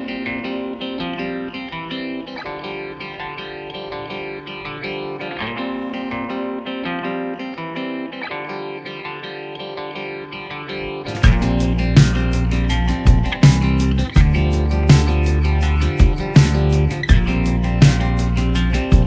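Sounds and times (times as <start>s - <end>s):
plucked guitar music: 0.0s - 19.0s.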